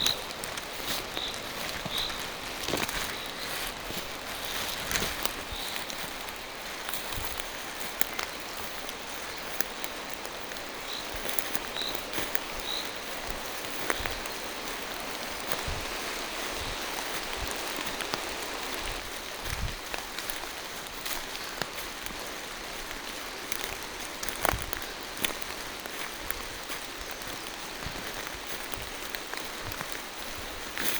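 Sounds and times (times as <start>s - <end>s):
rain falling through trees: 0.0s - 30.9s.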